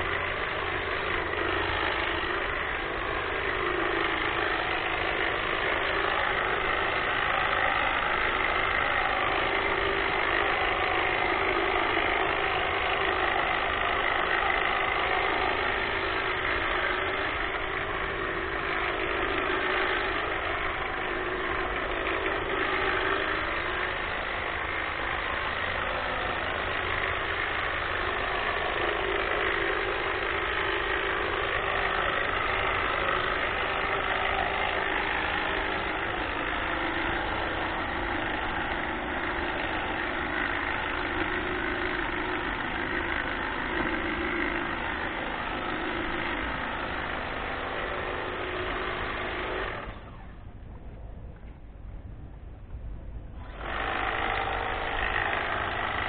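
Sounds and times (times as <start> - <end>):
hedge trimmer buzzing: 0.0 - 50.5, 53.2 - 56.0.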